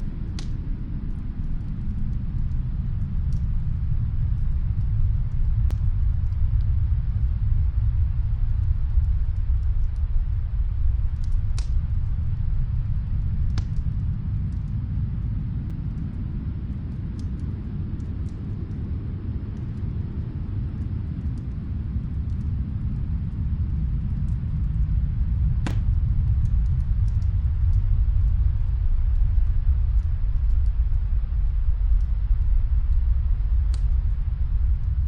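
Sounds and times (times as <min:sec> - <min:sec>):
fireplace crackling: 0:00.0 - 0:35.0
snowstorm wind rumble: 0:00.0 - 0:35.0.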